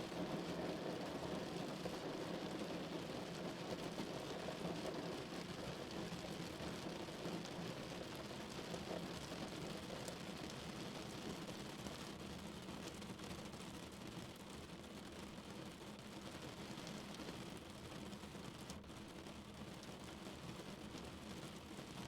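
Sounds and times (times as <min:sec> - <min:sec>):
rain on a car roof: 0:00.0 - 0:22.0.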